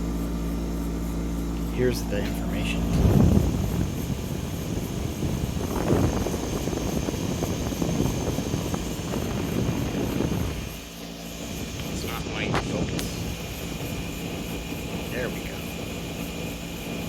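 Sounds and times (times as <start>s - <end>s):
air conditioner fan airflow rumbling: 0.0s - 17.0s
air conditioner hum: 0.0s - 17.0s.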